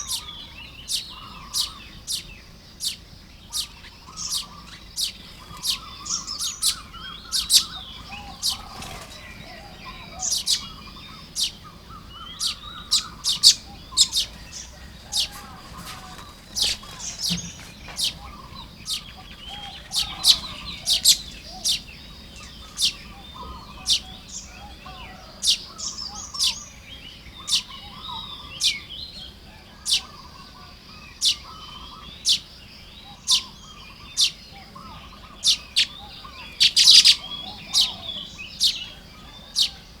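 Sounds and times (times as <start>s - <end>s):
birds chattering twitter: 0.0s - 40.0s
birds chirping sharply: 0.0s - 40.0s.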